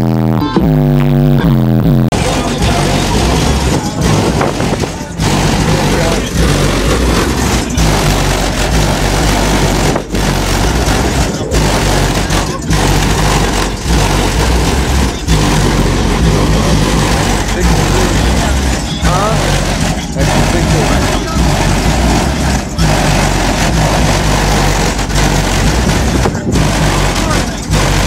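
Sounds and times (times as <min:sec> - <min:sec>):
bass-heavy music from subwoofers: 0:00.0 - 0:28.0.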